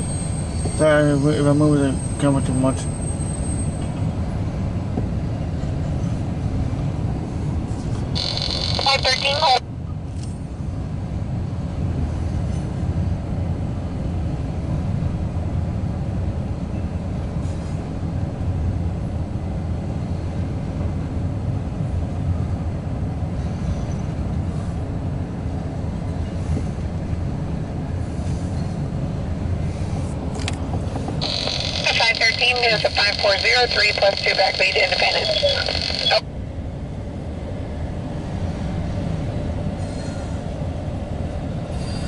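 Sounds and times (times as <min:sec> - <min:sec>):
train rumbling over steel bridge: 0:00.0 - 0:42.0.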